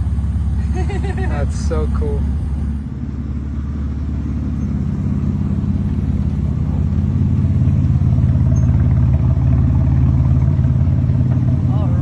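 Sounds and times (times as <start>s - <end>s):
race car engine pulsing: 0.0s - 12.0s.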